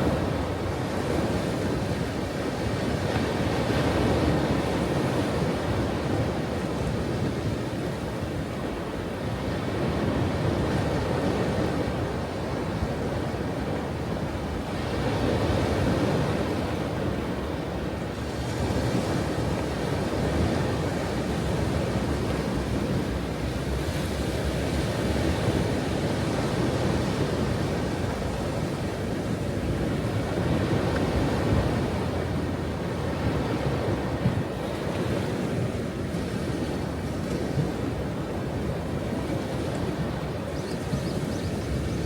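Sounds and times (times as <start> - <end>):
ocean waves breaking on shore: 0.0 - 42.0
wind on microphone: 0.0 - 42.0.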